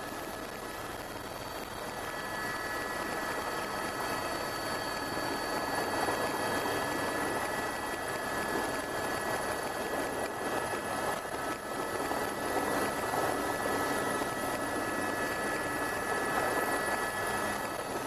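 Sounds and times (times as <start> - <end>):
helicopter rotor and engine: 0.0 - 18.0
high steady whine: 0.0 - 18.0.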